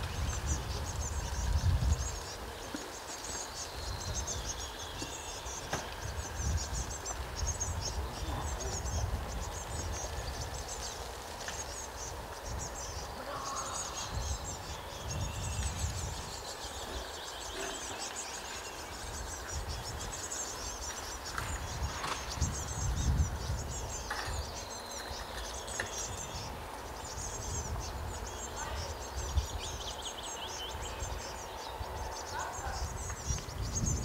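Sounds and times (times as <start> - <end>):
nestlings chirping: 0.0 - 34.0.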